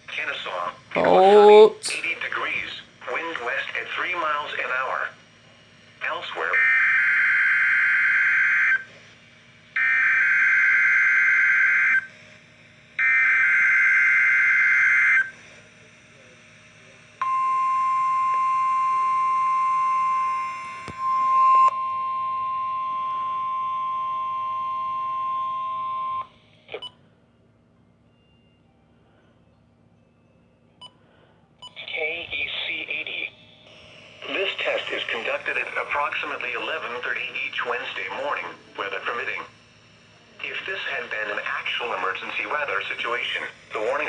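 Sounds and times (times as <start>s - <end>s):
steady warning alarm tone: 0.0s - 27.1s, 30.6s - 44.0s.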